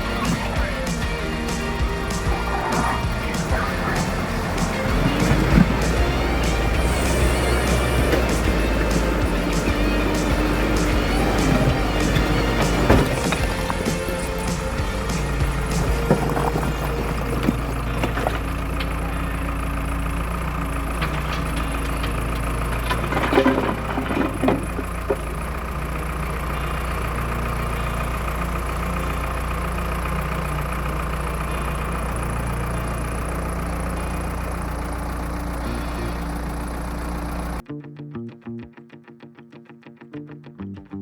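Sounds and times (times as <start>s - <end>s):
excavator diesel engine running: 0.0s - 37.7s.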